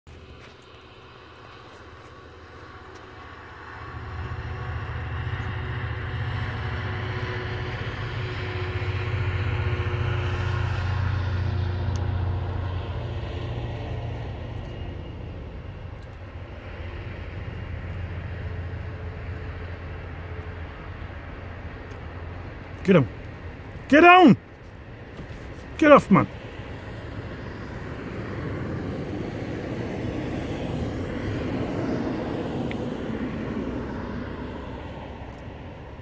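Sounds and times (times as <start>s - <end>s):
diesel locomotive engine droning: 0.1s - 36.0s.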